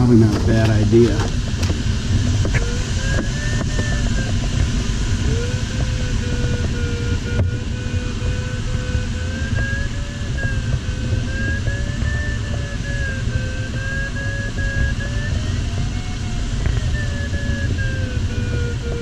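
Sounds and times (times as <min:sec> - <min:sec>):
airflow rumble: 0:00.0 - 0:19.0
electronic variometer tone: 0:00.0 - 0:19.0.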